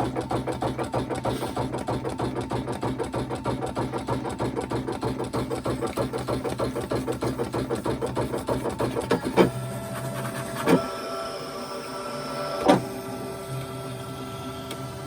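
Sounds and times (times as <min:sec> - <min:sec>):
cutting machine motor hum: 0:00.0 - 0:15.0.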